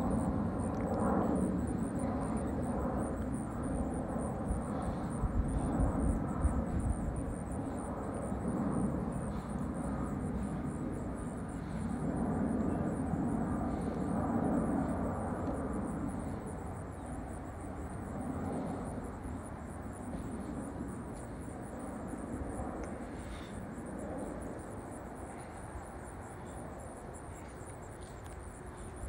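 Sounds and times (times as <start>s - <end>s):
jet engine rumble overhead: 0.0s - 29.0s.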